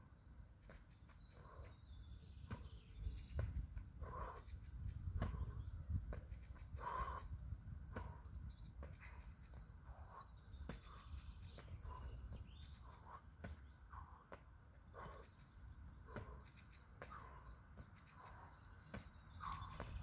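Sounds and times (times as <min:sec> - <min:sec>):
birds calling: 0:00.0 - 0:20.0
low wind rumble: 0:01.2 - 0:20.0.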